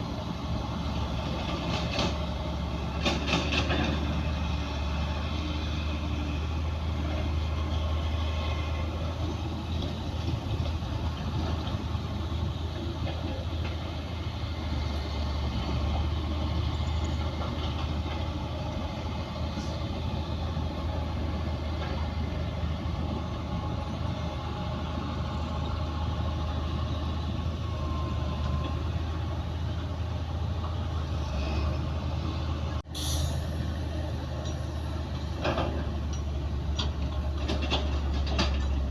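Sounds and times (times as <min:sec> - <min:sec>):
heavy machinery diesel engines rumbling: 0:00.0 - 0:38.9.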